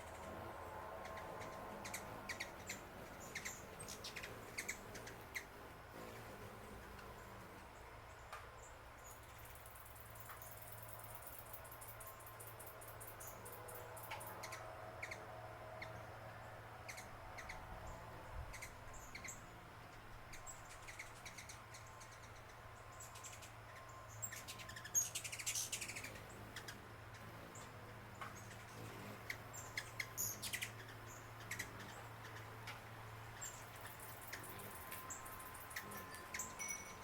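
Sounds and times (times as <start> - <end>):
faint low hum: 0.0 - 37.0
small birds chirping: 0.0 - 37.0.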